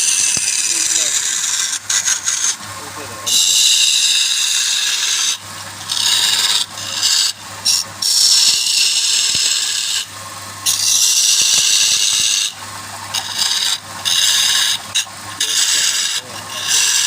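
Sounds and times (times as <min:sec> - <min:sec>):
low lathe hum: 0:00.0 - 0:17.0
tool rasping on wood lathe: 0:00.0 - 0:17.0.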